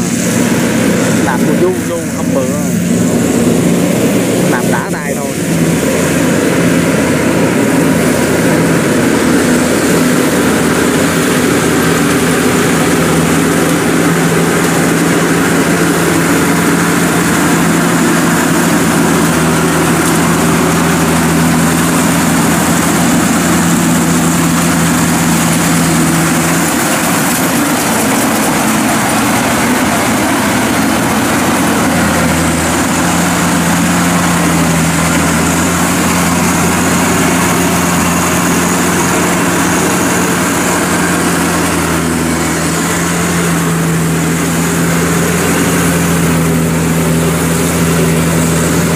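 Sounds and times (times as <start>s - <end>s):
combine harvester running: 0.0s - 48.9s.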